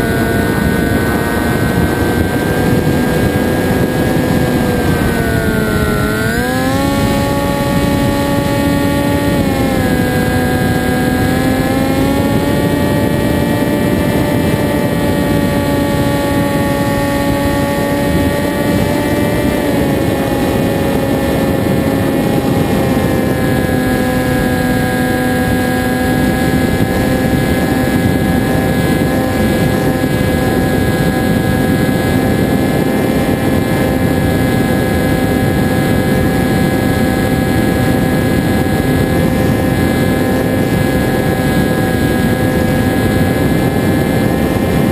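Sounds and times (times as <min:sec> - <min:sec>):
propeller motor droning: 0:00.0 - 0:44.9
rushing wind noise: 0:00.0 - 0:44.9.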